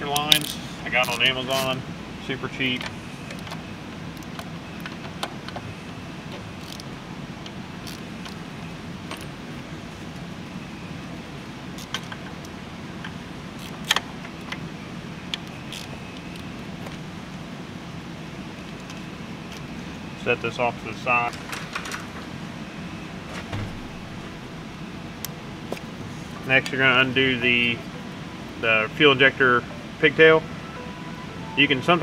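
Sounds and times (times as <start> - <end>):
steady low hum: 0.0 - 21.3, 22.0 - 32.0.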